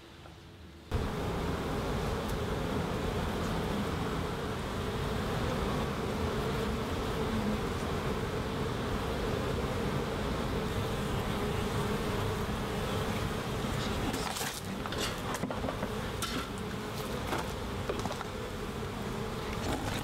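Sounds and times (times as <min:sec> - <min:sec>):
honeybees buzzing: 0:00.7 - 0:20.0.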